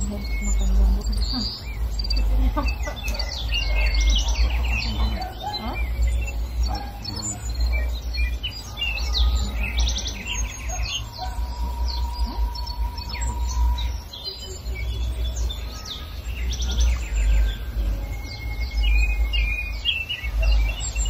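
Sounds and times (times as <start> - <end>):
low rumble: 0.0 - 21.0
songbirds chirping: 0.0 - 21.0.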